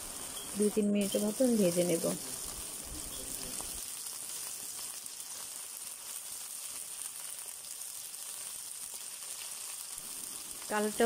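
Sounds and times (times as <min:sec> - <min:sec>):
okra sizzling in hot oil: 0:00.0 - 0:11.0.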